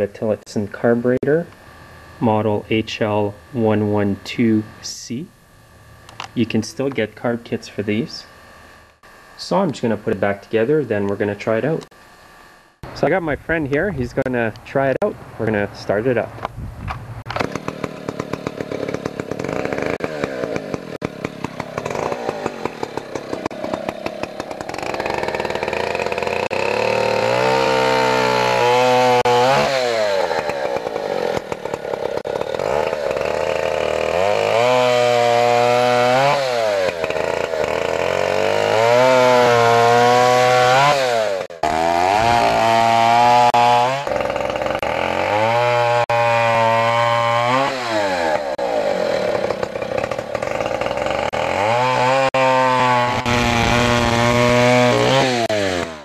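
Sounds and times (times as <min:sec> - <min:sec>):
chainsaw sawing wood: 0:00.0 - 0:13.2, 0:17.2 - 0:56.0.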